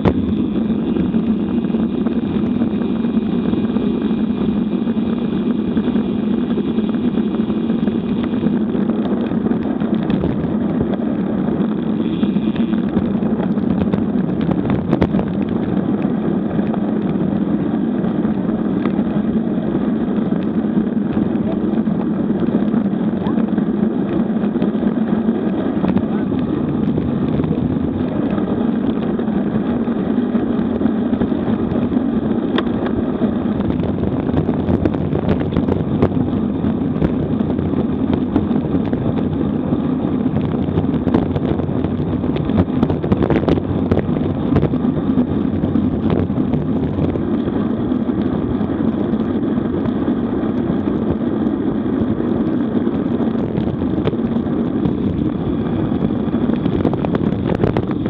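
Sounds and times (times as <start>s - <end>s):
bike tyre roar on asphalt: 0.0s - 58.0s
wind rushing on microphone: 0.0s - 58.0s.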